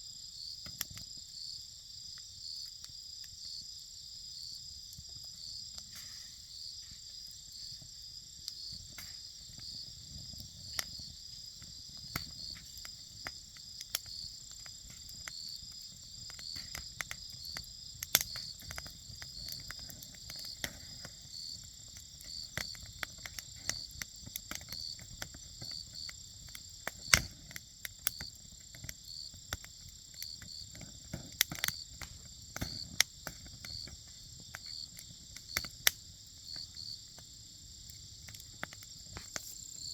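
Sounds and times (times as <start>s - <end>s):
insects chirping: 0.0s - 39.9s
wood fire crackling and popping: 0.6s - 1.3s, 1.9s - 39.9s
low fire rumble: 3.3s - 39.9s.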